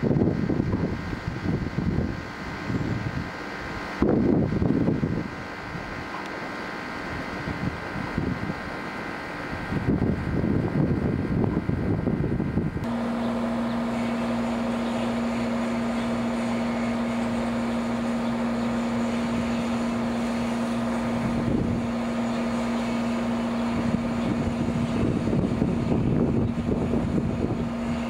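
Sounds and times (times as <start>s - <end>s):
wind gusts on microphone: 0.0s - 6.1s, 7.0s - 13.7s, 15.5s - 28.0s
steady mechanical hum: 0.0s - 28.0s.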